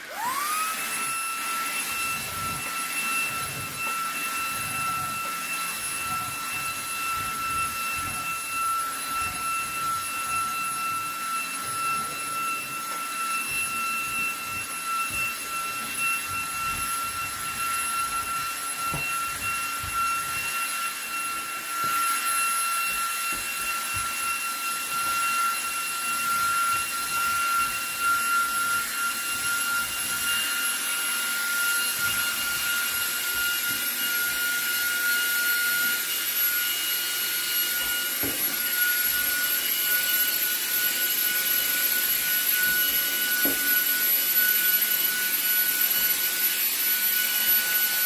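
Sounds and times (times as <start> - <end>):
vacuum motor whine: 0.0 - 48.0.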